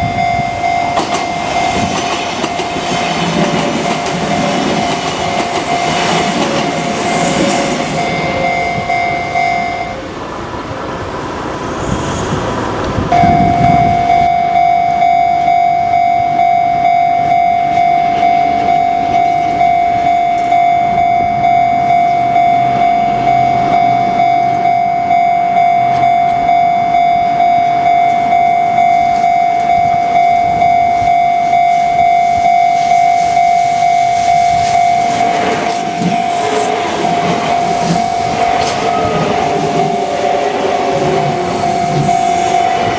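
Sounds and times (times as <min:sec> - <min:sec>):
level crossing warning bell: 0:00.0 - 0:10.2, 0:13.1 - 0:42.9.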